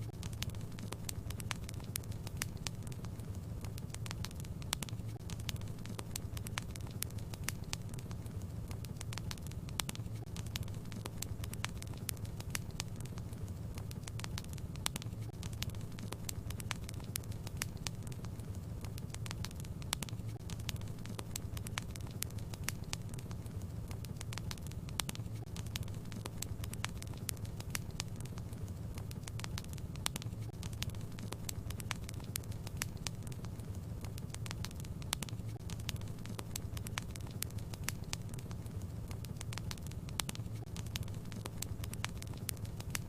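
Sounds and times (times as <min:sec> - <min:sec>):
fireplace fire crackling: 0:00.0 - 0:43.0.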